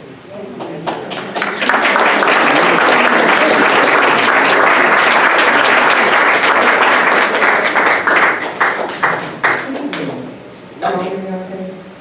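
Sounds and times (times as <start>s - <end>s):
audience applauding: 0.6s - 10.2s.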